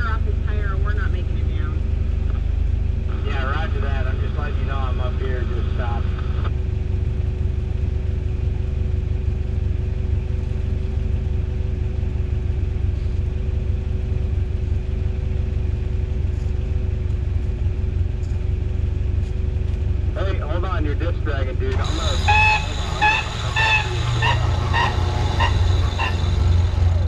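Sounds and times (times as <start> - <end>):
even hum: 0.0 - 27.0
truck engine rumbling: 0.0 - 27.0.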